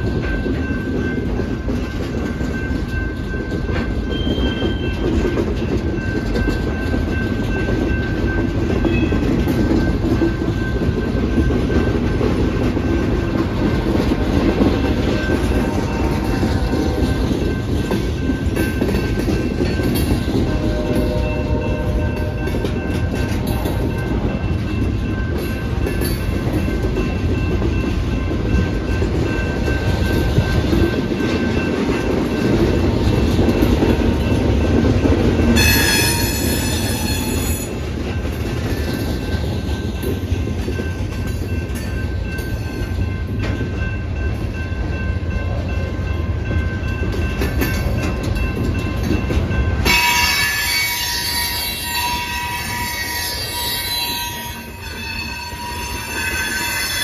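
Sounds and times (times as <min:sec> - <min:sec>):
clickety-clack over rail joints: 0:00.0 - 0:57.0
crossing bell ringing: 0:00.0 - 0:57.0
train wheels rumbling on rails: 0:00.0 - 0:57.0.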